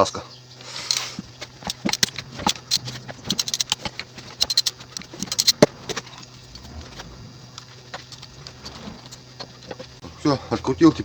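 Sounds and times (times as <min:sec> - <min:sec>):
metal tools clicking and clinking: 0:00.8 - 0:10.0.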